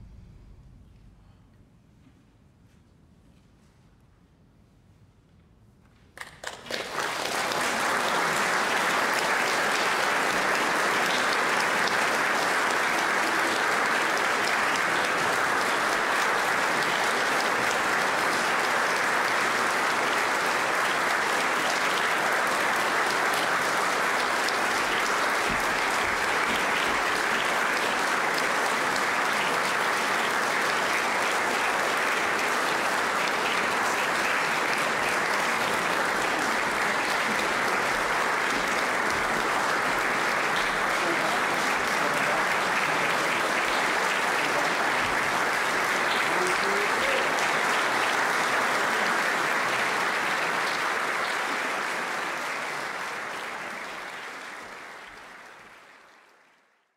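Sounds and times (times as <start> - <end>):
audience applauding: 6.2 - 56.9.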